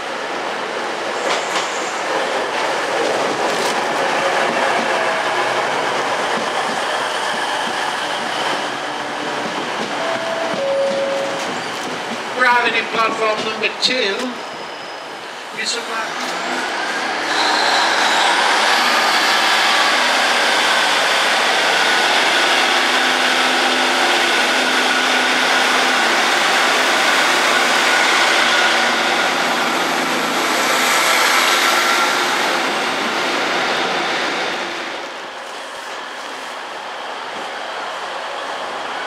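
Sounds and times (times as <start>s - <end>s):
diesel train passing: 0.0s - 39.0s.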